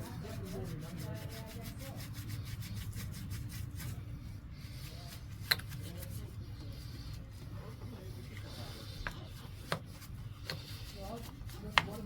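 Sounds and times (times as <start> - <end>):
hand scrubbing car wheel: 0.0 - 12.0.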